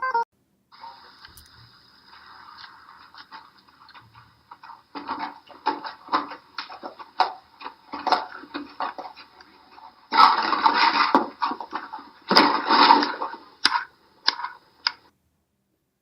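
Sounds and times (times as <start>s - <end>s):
water splashing: 0.7s - 14.5s.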